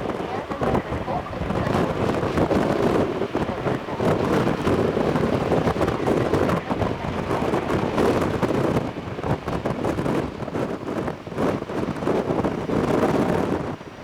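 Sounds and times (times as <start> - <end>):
gusting wind buffeting microphone: 0.0 - 14.0.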